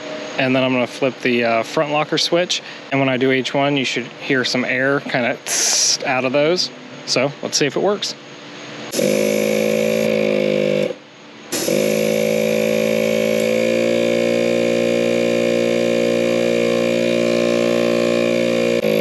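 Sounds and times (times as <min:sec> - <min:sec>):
air compressor motor humming: 0:00.0 - 0:19.0.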